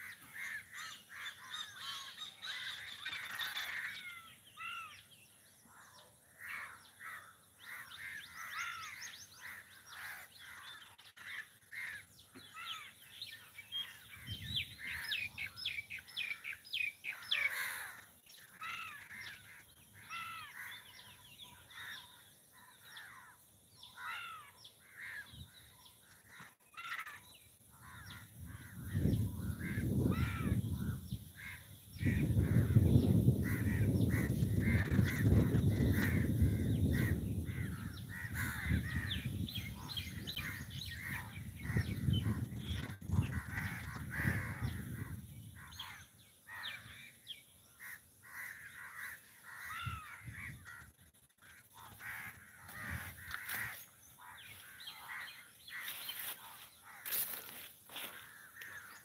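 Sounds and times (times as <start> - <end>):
crows cawing: 0.0 - 5.1, 5.7 - 13.0, 16.2 - 42.5, 43.2 - 59.0
birds chirping: 0.0 - 59.0.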